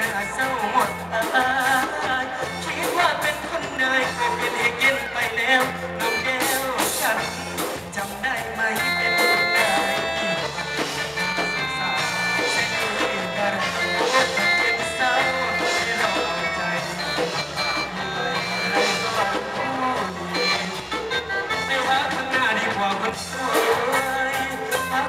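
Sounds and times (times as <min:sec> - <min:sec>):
bass guitar: 0:00.0 - 0:25.0
drum kit: 0:00.0 - 0:25.0
electric guitar: 0:00.0 - 0:25.0
man singing into a microphone: 0:00.0 - 0:25.0.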